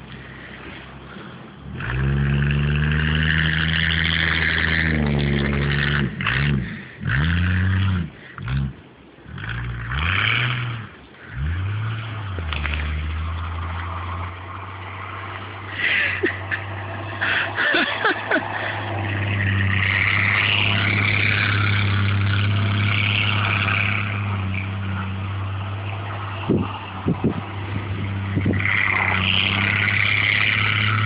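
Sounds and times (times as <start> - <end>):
engine revving and idling: 0.0 - 31.0.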